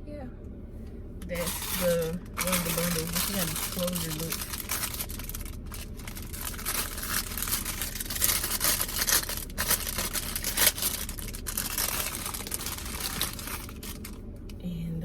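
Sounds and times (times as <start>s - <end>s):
sharp crackles: 1.2s - 14.2s
packaging rustling and crinkling: 1.3s - 14.2s.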